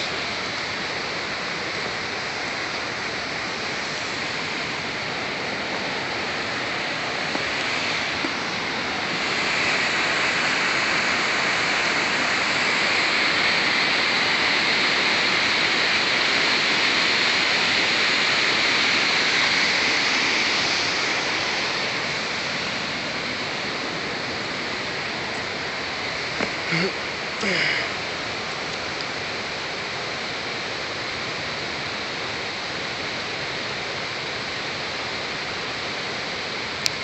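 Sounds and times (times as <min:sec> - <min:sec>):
rush of falling water: 0:00.0 - 0:37.0.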